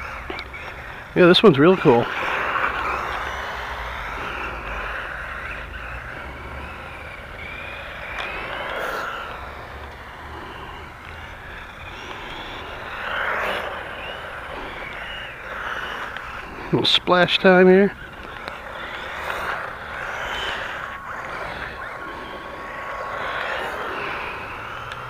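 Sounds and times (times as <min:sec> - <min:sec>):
toy car electric motor whining: 0:00.0 - 0:25.0.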